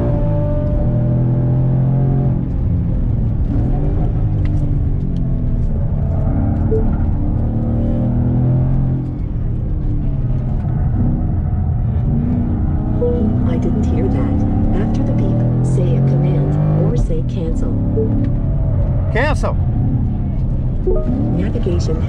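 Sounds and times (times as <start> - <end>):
car engine revving through gears: 0.0 - 22.0
road and tyre noise: 0.0 - 22.0.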